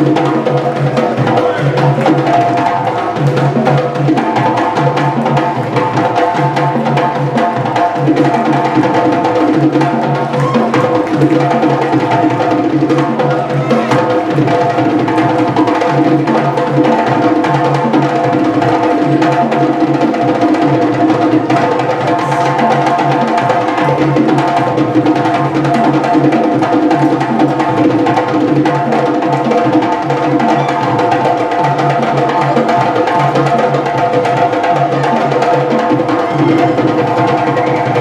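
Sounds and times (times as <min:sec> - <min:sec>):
percussion-led music: 0:00.0 - 0:38.0.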